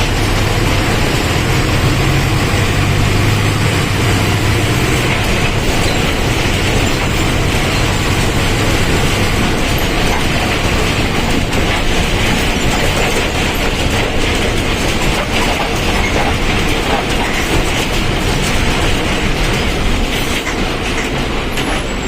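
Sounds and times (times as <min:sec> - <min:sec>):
bus body rattling and clacking: 0:00.0 - 0:22.0
bus diesel engine running: 0:00.0 - 0:22.0.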